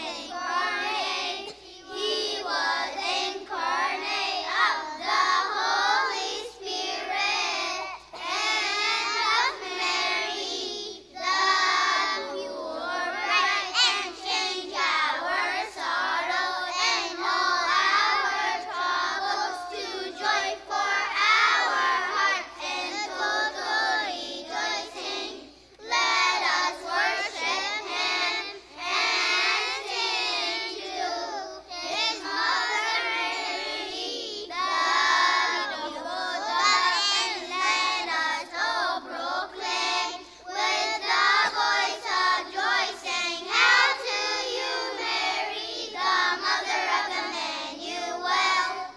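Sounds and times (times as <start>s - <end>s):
children singing a hymn: 0.0s - 48.9s.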